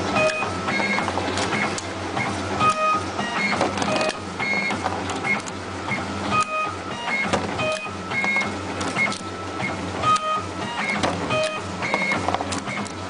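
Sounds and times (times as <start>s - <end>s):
machine motors whining and humming: 0.0s - 13.0s.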